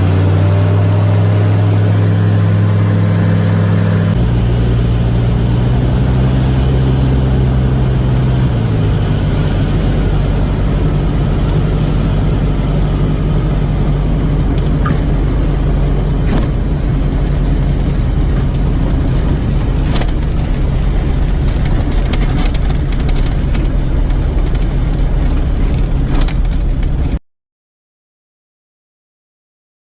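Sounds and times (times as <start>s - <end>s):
propeller aircraft engine: 0.0s - 27.2s.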